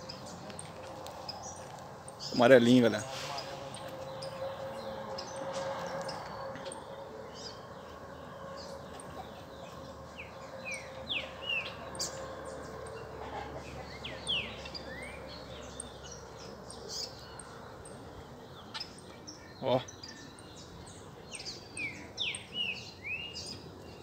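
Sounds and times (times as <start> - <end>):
small songbirds chirping: 0.0 - 24.0.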